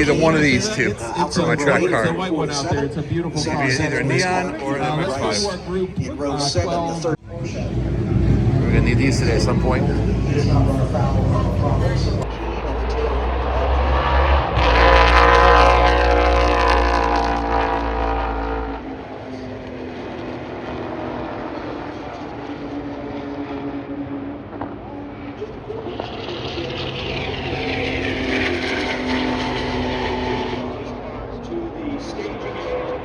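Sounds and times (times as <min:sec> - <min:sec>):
distant cars running: 0:00.0 - 0:33.0
racing car passing by: 0:00.0 - 0:33.0.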